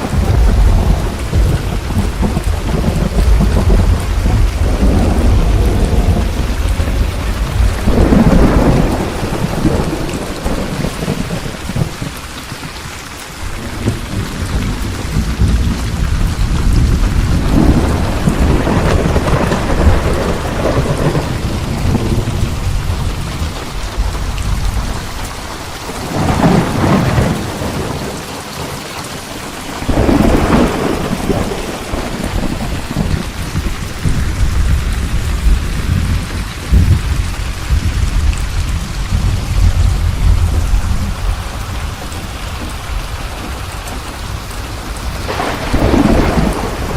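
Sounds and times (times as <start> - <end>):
loud thunderclaps: 0.0 - 12.6, 13.4 - 46.9
low thunder rumbling: 0.0 - 12.7, 13.4 - 46.9
steady rain: 0.0 - 46.9.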